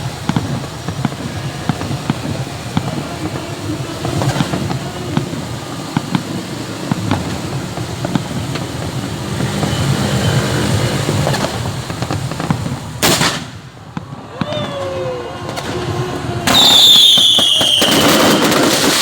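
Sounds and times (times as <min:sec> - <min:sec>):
low rumble: 0:00.0 - 0:17.1
fireworks popping and crackling: 0:00.0 - 0:19.0.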